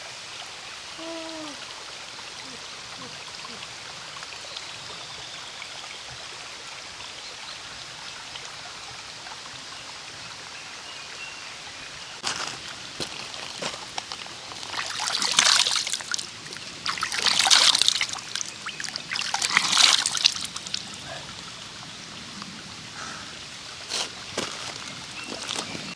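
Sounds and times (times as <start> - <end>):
flowing water: 0.0 - 25.9.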